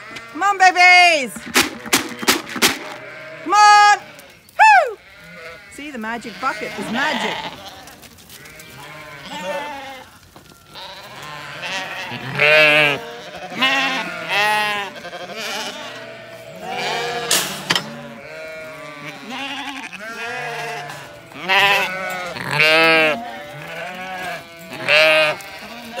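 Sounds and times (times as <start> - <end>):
sheep bleating: 0.0 - 26.0.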